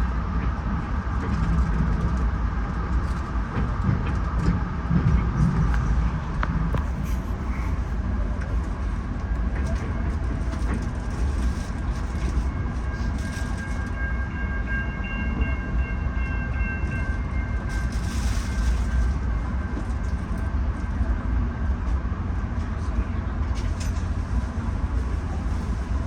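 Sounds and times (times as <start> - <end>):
train coach rumbling on track: 0.0 - 26.0.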